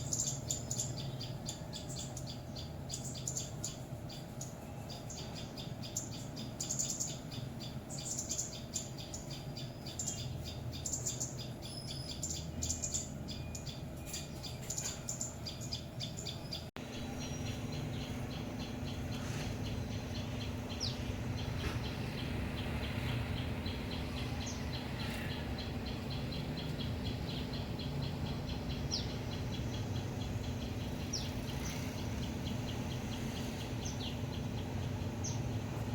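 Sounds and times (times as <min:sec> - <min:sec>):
birds chirping alarm calls: 0:00.0 - 0:35.9
low steady hum: 0:00.0 - 0:35.9.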